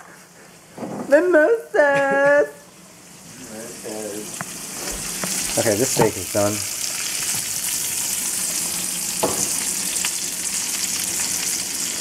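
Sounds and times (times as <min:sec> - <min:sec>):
steaks sizzling in a frying pan: 0:01.2 - 0:12.0.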